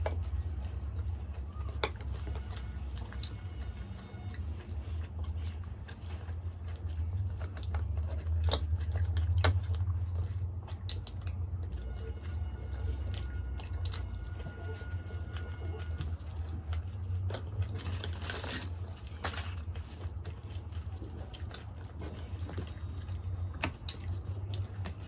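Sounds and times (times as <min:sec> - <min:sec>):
low hum: 0:00.0 - 0:25.0
wet chewing with mouth clicks: 0:00.0 - 0:25.0.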